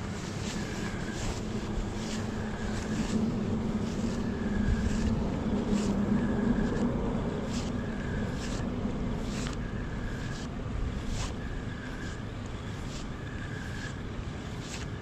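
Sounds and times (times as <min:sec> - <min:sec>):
motor humming low: 0:00.0 - 0:15.0.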